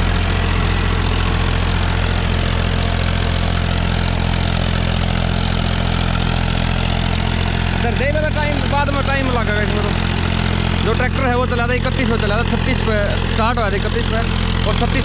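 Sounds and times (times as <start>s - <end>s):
rotavator tilling soil: 0.0s - 15.0s
tractor diesel engine under load: 0.0s - 15.0s.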